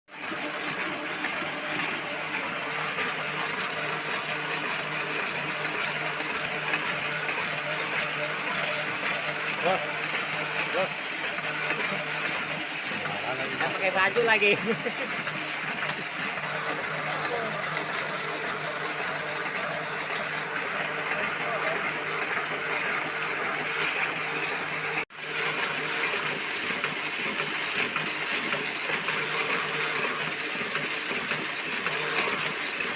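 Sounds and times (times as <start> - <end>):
printing press clattering: 0.1 - 32.9.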